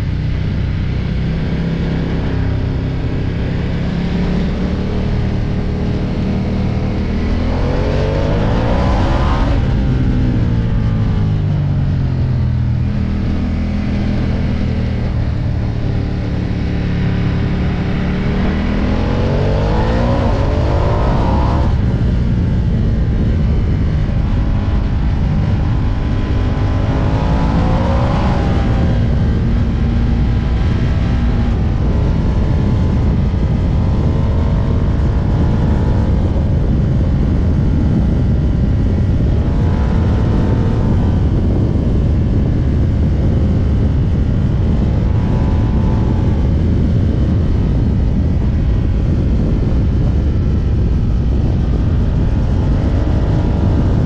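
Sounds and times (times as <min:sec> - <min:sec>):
motorcycle engine accelerating: 0:00.0 - 0:54.0
wind rush on microphone: 0:00.0 - 0:54.0.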